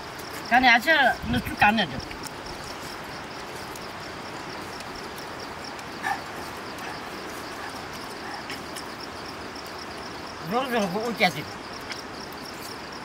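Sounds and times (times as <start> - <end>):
insects trilling: 0.0 - 13.0
soft outdoor hiss: 0.0 - 13.0.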